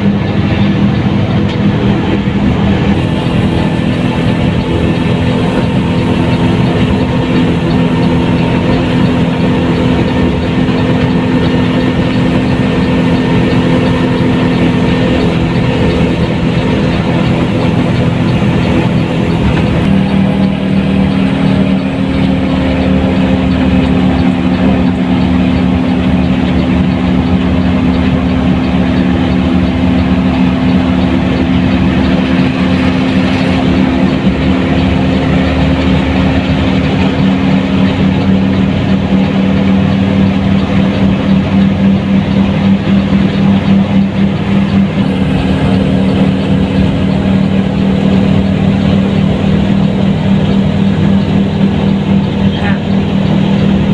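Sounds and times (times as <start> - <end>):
diesel bus engine droning: 0.0 - 53.9.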